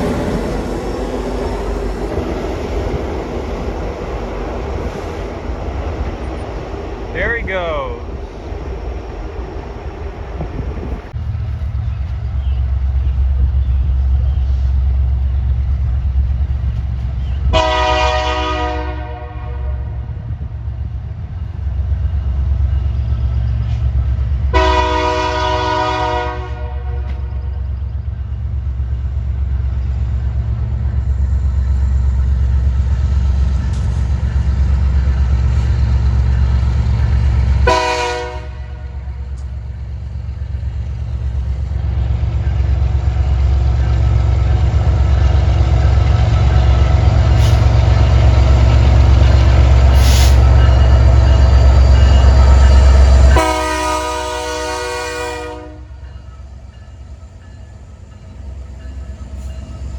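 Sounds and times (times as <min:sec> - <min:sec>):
locomotive low rumble: 0:00.0 - 0:59.9.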